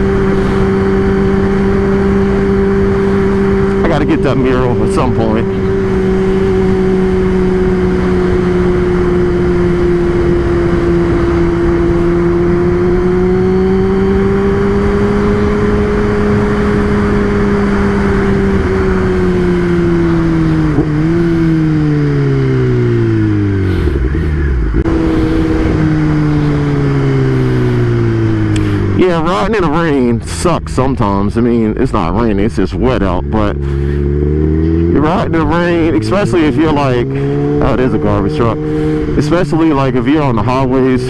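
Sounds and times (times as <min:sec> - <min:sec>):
motorcycle engine running: 0:00.0 - 0:41.0
wind and road rush: 0:00.0 - 0:41.0.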